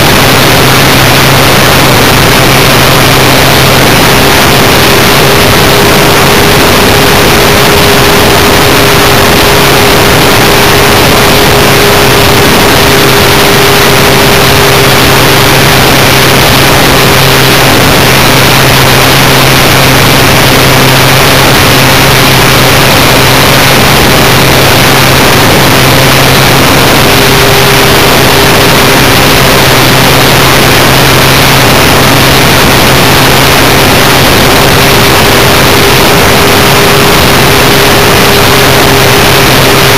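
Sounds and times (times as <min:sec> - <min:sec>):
motor hum: 0:00.0 - 0:39.9
rush of wind and propeller: 0:00.0 - 0:39.9.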